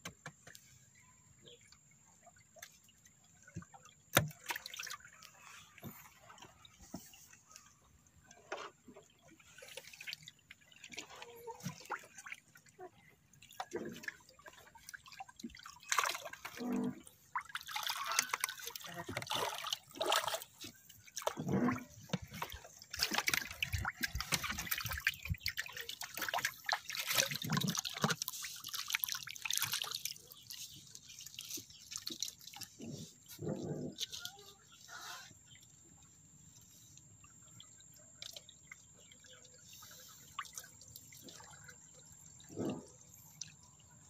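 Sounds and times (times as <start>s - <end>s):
water dripping and splashing: 1.5s - 44.0s.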